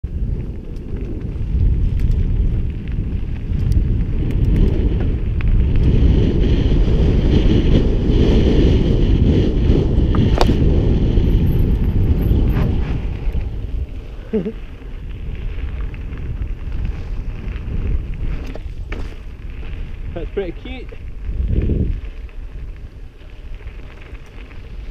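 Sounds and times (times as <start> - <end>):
wind buffeting microphone: 0.0 - 24.9
bike clicks and rattles: 0.1 - 24.9.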